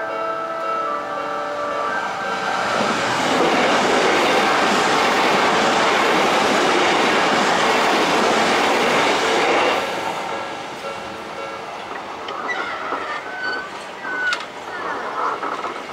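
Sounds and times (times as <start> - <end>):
train wheel and rail noise: 0.0 - 15.9.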